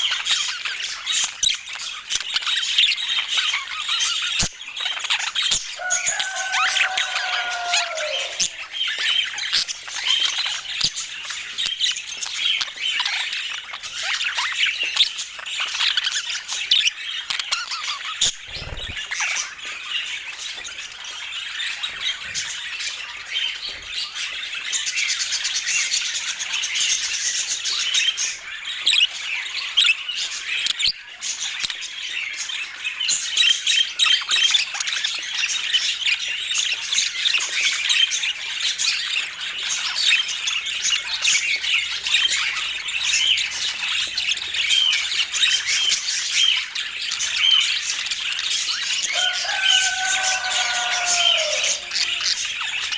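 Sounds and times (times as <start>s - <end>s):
budgerigars chattering and squawking: 0.0s - 30.7s, 31.3s - 52.9s.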